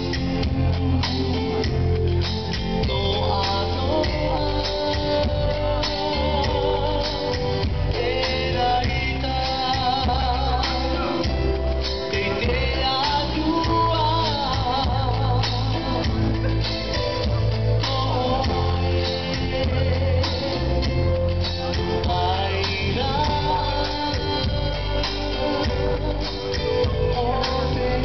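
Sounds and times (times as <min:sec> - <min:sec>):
song with singer and guitar: 0:00.0 - 0:28.0.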